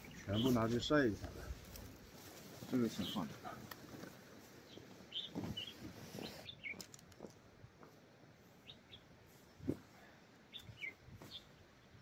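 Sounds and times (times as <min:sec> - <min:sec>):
small birds chirping: 0:00.0 - 0:07.4, 0:08.4 - 0:12.0.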